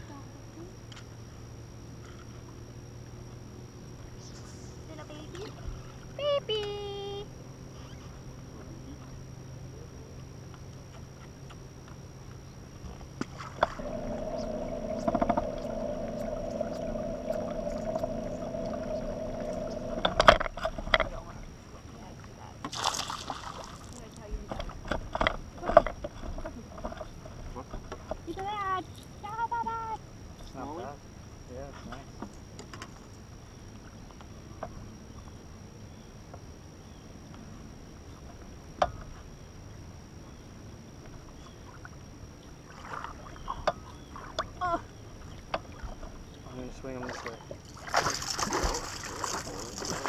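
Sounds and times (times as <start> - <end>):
motor hum: 0.0 - 50.0
wind and water noise: 0.0 - 50.0.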